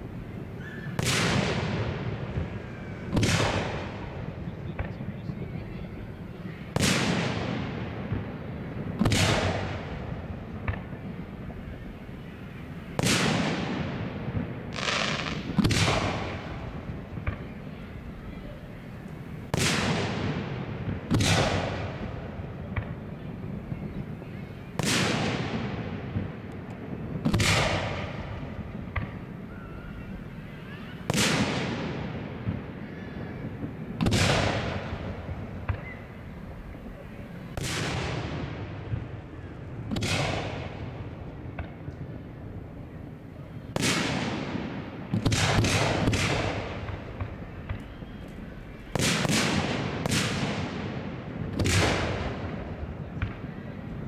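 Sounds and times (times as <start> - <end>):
firework shells booming: 0.9 - 5.1, 6.7 - 12.2, 12.9 - 17.6, 18.8 - 24.0, 24.7 - 29.5, 31.0 - 42.2, 43.7 - 53.5.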